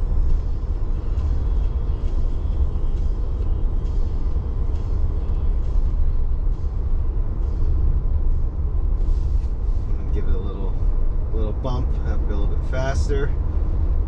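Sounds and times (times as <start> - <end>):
road and tyre noise in car cabin: 0.0 - 14.0.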